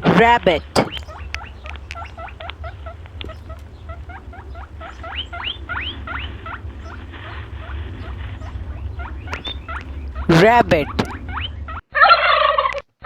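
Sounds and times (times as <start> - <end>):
steady low hum: 0.0 - 11.8
rabbit squeaking: 0.0 - 12.8.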